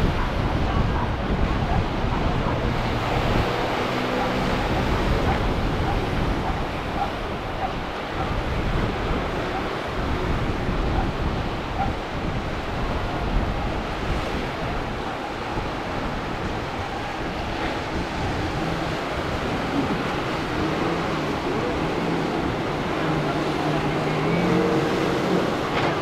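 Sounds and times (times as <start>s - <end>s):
breaking waves and surf: 0.0s - 26.0s
wind buffeting microphone: 0.0s - 26.0s.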